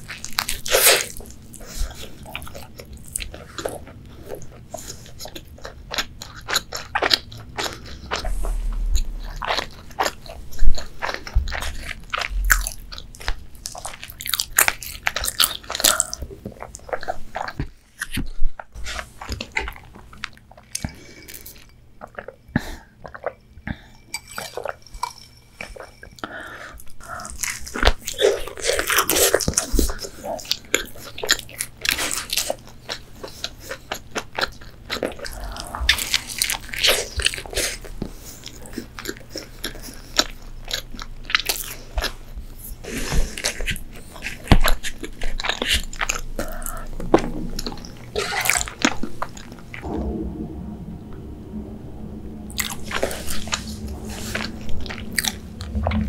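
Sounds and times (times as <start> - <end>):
chewing: 0.0 - 49.9.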